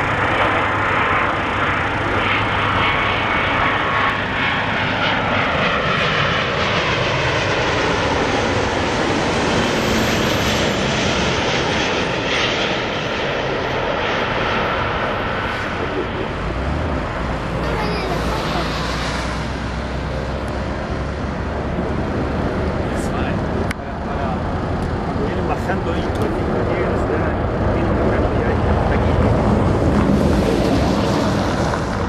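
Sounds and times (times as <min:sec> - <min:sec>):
jet airliner flying past: 0:00.0 - 0:32.0.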